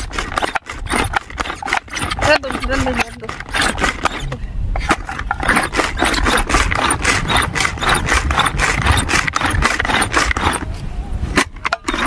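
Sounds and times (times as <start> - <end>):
food scraped and chopped by hand: 0.0 - 10.7.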